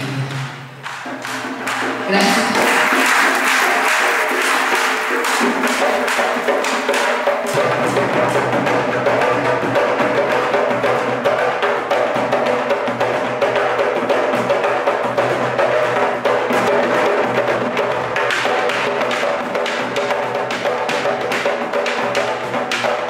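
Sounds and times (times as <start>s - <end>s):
wooden hand drums: 0.0s - 23.0s.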